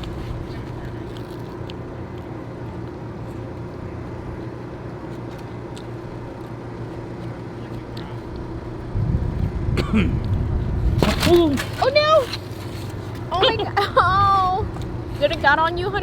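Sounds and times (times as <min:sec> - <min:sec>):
motor vehicle engine humming: 0:00.0 - 0:16.0.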